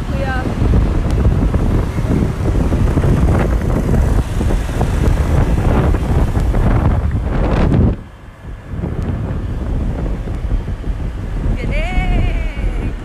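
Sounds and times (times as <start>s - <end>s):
road and traffic noise: 0.0s - 13.0s
wind buffeting microphone: 0.0s - 13.0s.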